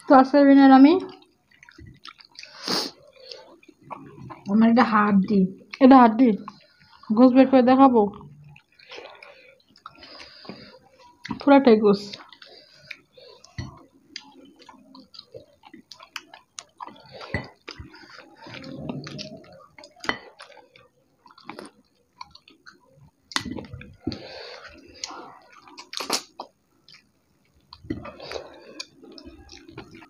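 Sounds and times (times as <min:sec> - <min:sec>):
people chewing: 0:01.0 - 0:07.2, 0:08.1 - 0:30.0.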